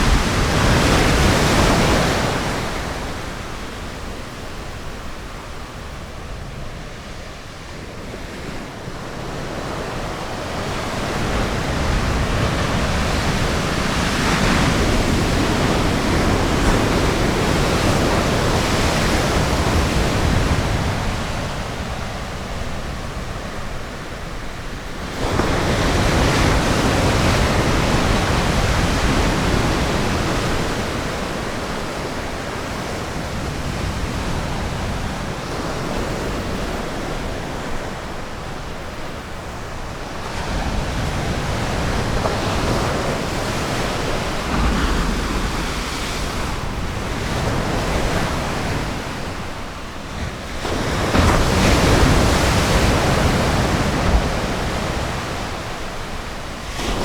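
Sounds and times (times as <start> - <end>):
ocean waves washing on beach: 0.0 - 57.0.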